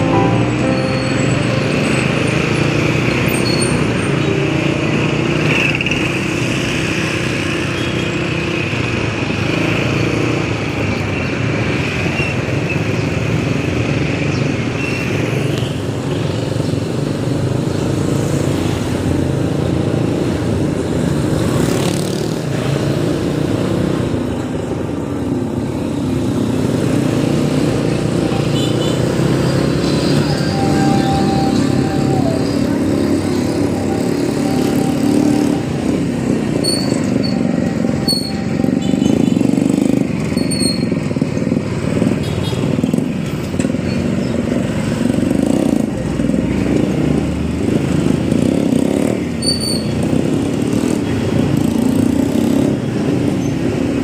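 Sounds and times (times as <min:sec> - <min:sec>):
road noise: 0:00.0 - 0:54.0.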